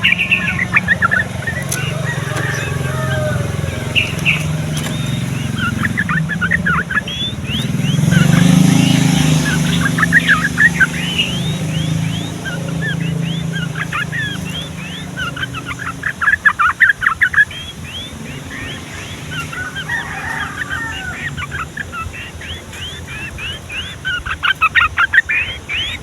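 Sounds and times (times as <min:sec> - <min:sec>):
bulbuls singing: 0:00.0 - 0:26.0.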